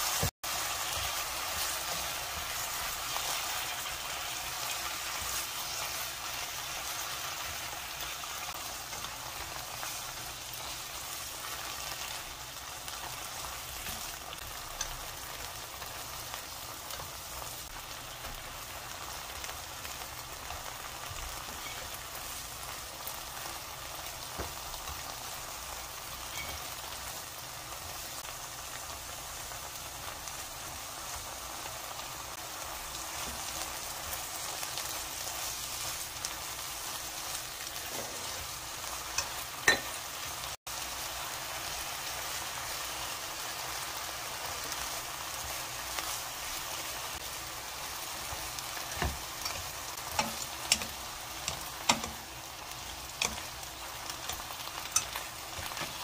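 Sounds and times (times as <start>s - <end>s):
pork sizzling in a wok: 0.0s - 56.0s.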